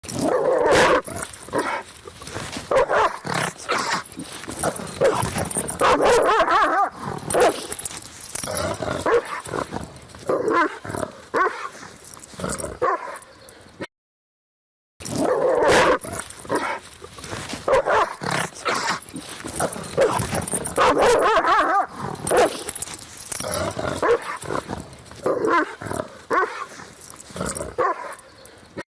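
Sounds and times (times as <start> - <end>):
dogs fighting and barking: 0.0 - 13.7, 15.0 - 28.8.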